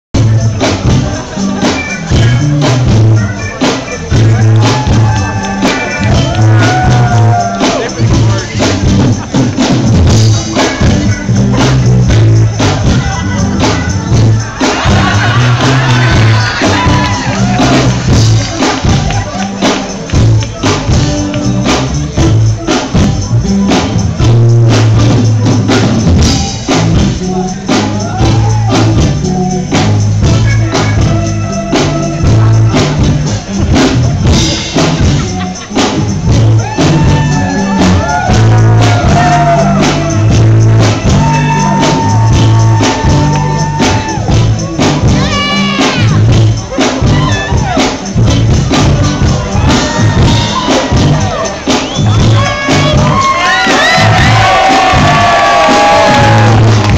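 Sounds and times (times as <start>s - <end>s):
upbeat music with bass and percussion: 0.0s - 56.9s.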